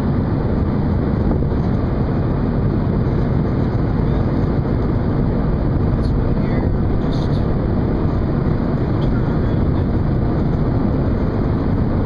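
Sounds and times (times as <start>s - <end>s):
ship low rumble: 0.0s - 12.0s
wind buffeting microphone: 0.0s - 12.0s.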